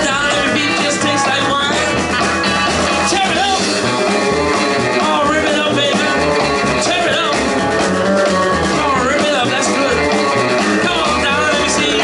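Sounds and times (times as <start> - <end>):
driving bass line: 0.0 - 12.0
drums: 0.0 - 12.0
electric guitar lead: 0.0 - 12.0.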